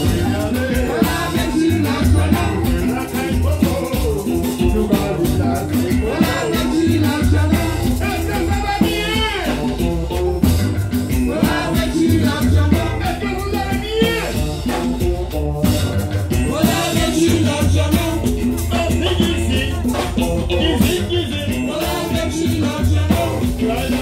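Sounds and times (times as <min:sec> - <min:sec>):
shaker percussion: 0:00.0 - 0:24.0
voices singing over beat: 0:00.0 - 0:24.0.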